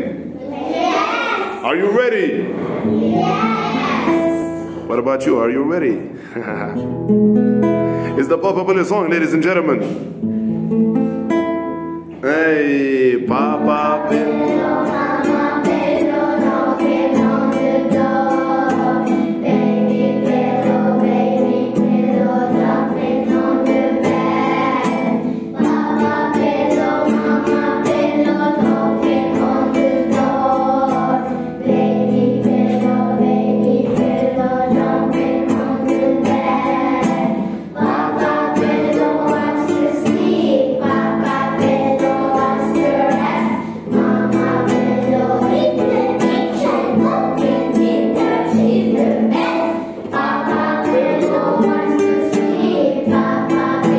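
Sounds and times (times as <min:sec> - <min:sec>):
children singing: 0:00.0 - 0:01.7, 0:02.4 - 0:04.7, 0:13.2 - 0:53.9
strummed acoustic guitar: 0:02.2 - 0:53.9.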